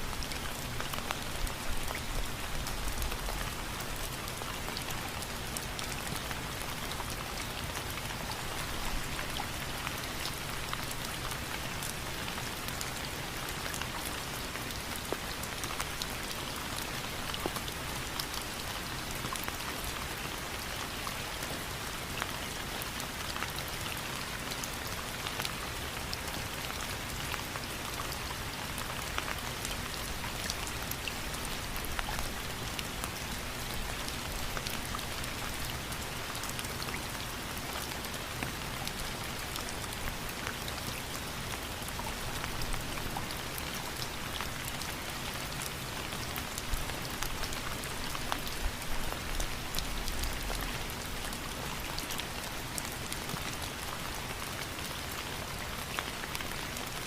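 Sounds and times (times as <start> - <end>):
rain falling: 0.0 - 57.0
raindrops pattering on a surface: 0.0 - 57.0.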